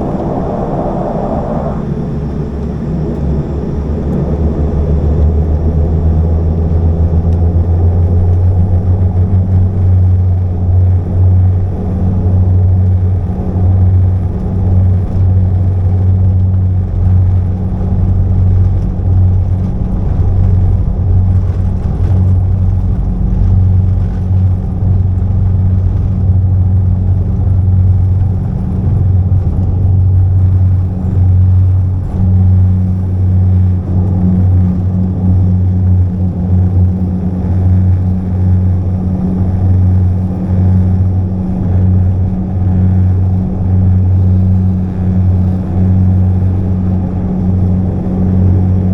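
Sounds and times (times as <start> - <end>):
airliner propellers droning: 0.0 - 48.9.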